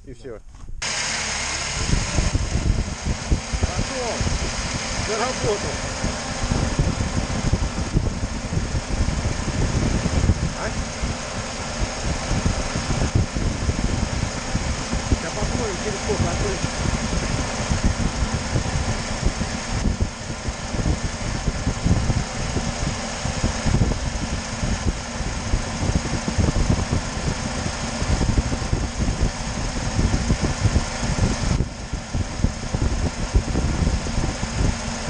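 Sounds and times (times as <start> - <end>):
electric cooling fan running: 0.7 - 35.0.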